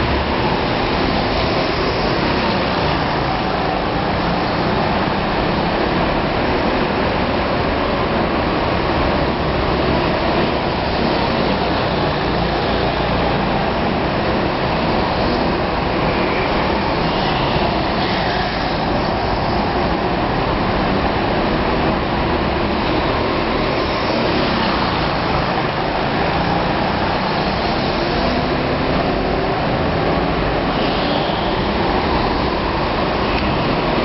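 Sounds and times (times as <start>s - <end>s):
go-kart engines running: 0.0s - 34.0s.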